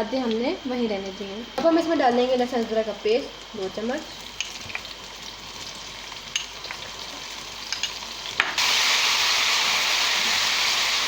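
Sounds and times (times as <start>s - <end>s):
onions sizzling in a pot: 0.0s - 11.0s.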